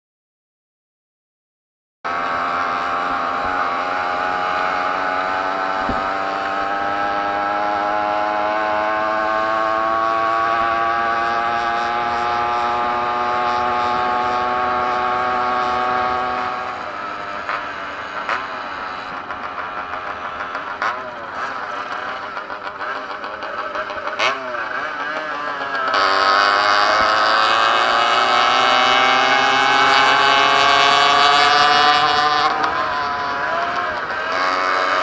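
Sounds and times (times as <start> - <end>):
moped engine at full throttle: 2.1 - 35.0.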